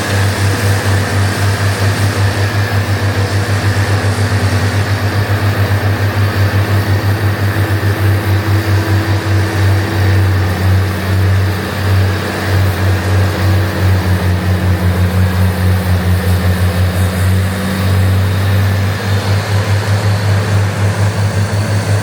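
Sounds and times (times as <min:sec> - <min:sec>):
diesel engine throbbing: 0:00.0 - 0:22.0.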